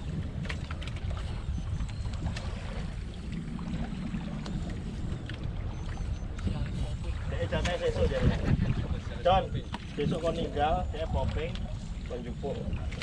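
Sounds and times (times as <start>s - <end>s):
boat engine low rumble: 0.0s - 13.0s
water lapping at hull: 0.0s - 13.0s.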